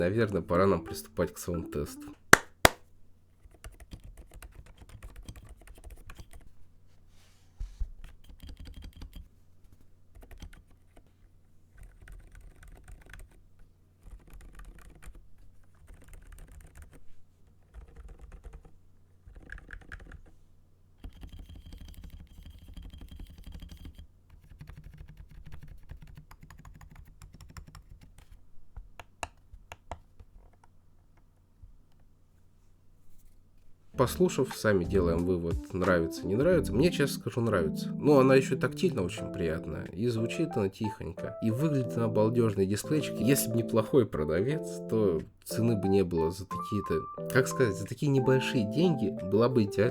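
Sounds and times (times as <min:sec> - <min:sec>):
quiet keyboard typing: 0:03.4 - 0:06.6, 0:08.0 - 0:11.1, 0:11.7 - 0:13.4, 0:14.0 - 0:20.4, 0:21.0 - 0:30.7, 0:34.0 - 0:49.9.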